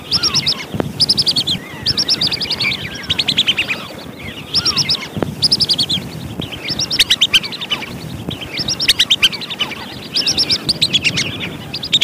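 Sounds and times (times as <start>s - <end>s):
ducks whistling calls: 0.0s - 12.0s.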